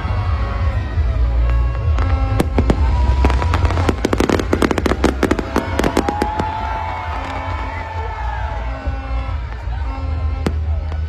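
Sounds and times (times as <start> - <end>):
fireworks crackling: 0.2 - 11.0.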